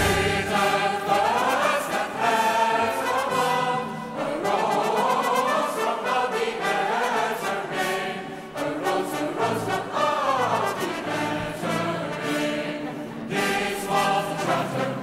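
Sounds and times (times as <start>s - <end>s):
choir with orchestra: 0.0s - 15.0s.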